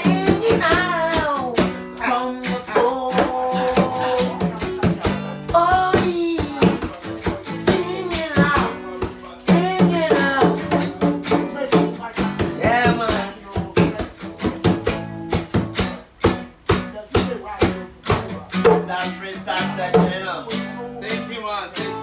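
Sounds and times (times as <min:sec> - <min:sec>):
man singing: 0:00.0 - 0:14.7, 0:18.6 - 0:22.0
hand drum beaten by hand: 0:00.0 - 0:20.4
acoustic guitar strumming: 0:00.0 - 0:22.0.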